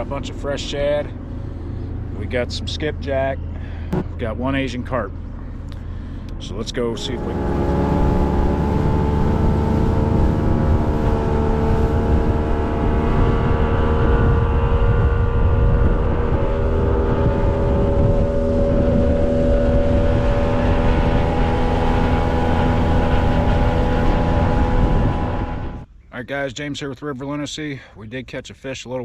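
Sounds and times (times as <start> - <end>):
outboard motor running: 0.0 - 25.8
low rumble of wind and water: 0.0 - 26.7.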